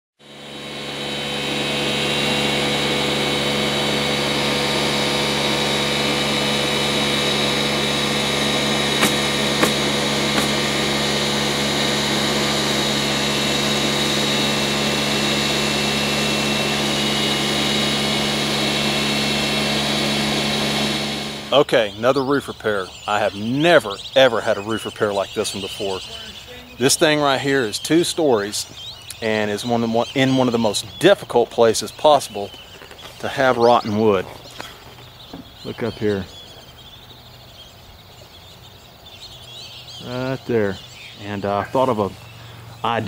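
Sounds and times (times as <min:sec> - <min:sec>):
steady motor drone: 0:00.2 - 0:43.0.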